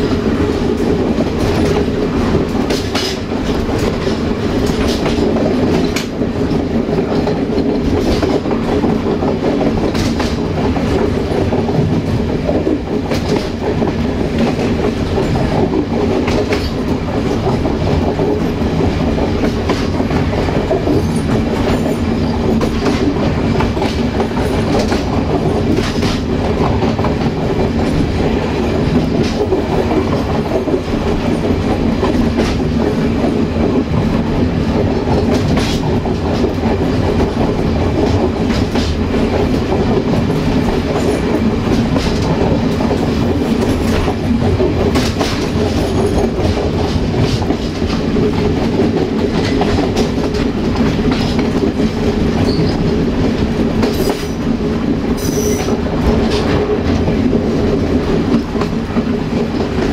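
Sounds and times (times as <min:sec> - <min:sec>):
wheel and rail rumble: 0:00.0 - 0:59.9
clicks over rail joints: 0:00.5 - 0:54.5.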